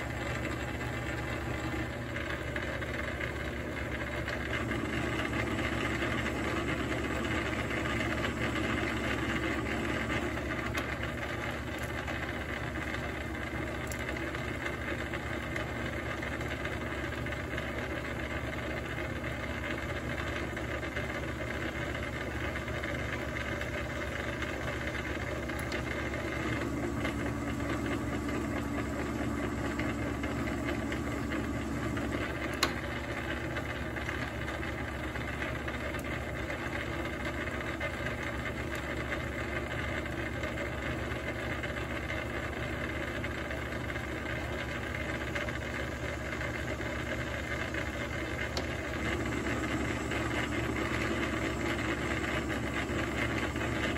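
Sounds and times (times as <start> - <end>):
lathe humming: 0.0 - 53.9.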